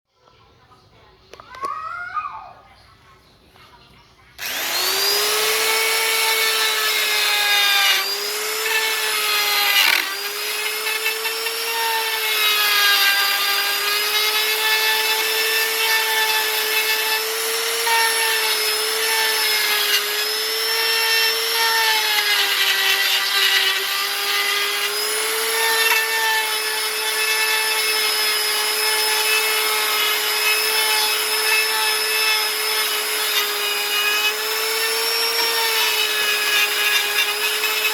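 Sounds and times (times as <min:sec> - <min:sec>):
power carving tool whining: 0:04.4 - 0:37.9
wood being cut rasping: 0:04.4 - 0:37.9.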